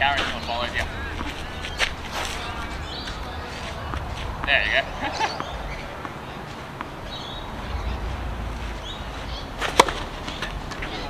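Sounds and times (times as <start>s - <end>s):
low background rumble: 0.0s - 10.7s
tennis racket hitting ball: 0.2s - 8.2s, 9.6s - 10.5s.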